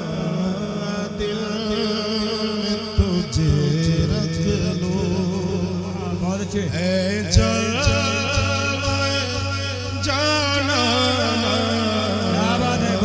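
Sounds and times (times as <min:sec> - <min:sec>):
man singing through a pa: 0:00.0 - 0:13.0.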